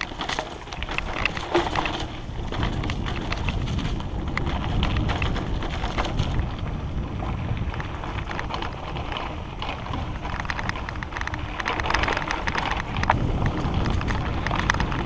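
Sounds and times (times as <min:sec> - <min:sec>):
bike rattling and clicking: 0:00.0 - 0:15.0
tyres crackling over leaves and dirt: 0:00.0 - 0:15.0
wind rumbling on microphone: 0:00.0 - 0:15.0.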